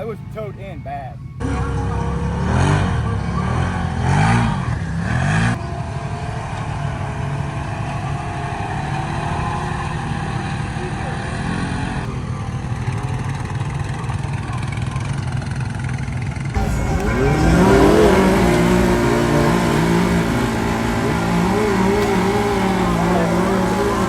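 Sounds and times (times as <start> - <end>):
off-road vehicle engine revving: 0.0 - 12.1, 16.6 - 24.0
outdoor noise: 0.0 - 24.0.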